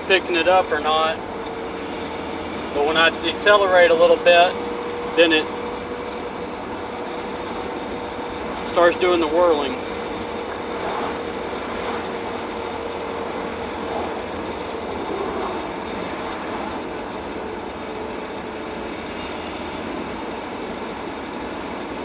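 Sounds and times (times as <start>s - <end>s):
differential whine: 0.0s - 22.0s
road and drivetrain noise: 0.0s - 22.0s.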